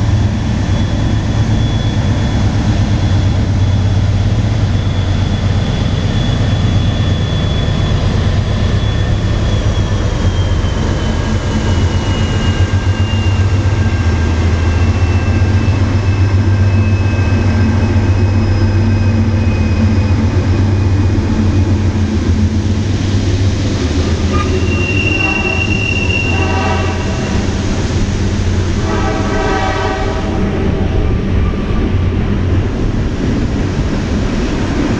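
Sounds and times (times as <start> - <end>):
diesel locomotives rumbling: 0.0 - 34.9
high wheel squeal: 0.1 - 22.0, 22.6 - 32.9.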